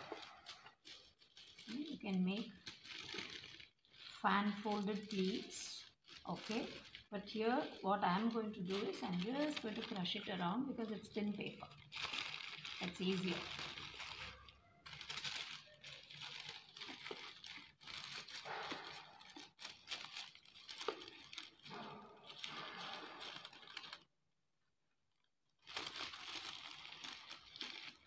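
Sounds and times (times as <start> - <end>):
paper crumpling: 0.0 - 24.1, 25.6 - 28.0.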